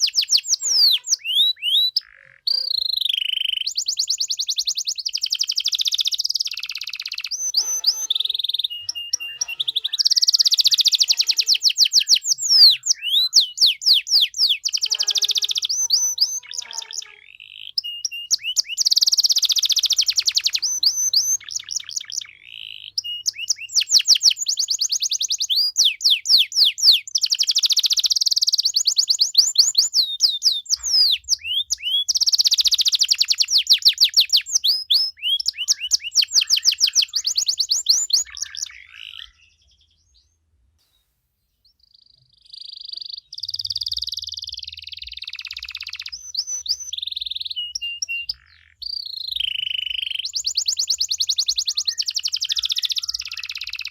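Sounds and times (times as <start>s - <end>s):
canary singing trills: 0.0s - 40.4s, 41.6s - 53.9s.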